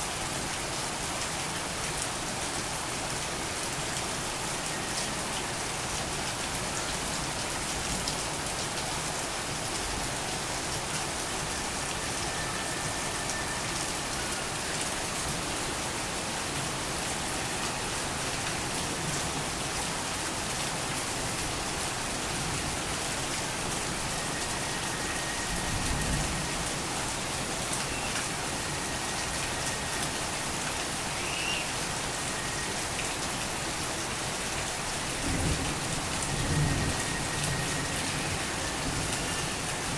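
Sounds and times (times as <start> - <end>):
torrential rain: 0.0 - 39.9.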